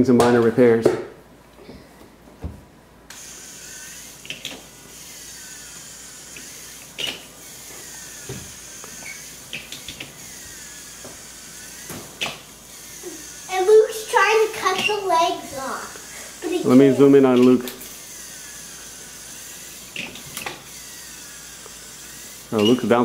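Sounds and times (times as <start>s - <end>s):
toy electric motor and gears: 3.1s - 23.0s.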